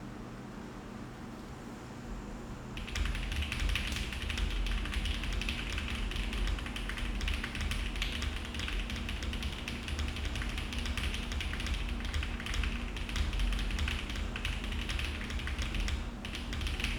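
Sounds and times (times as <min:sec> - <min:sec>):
typing on mechanical keyboard: 0:02.8 - 0:16.9.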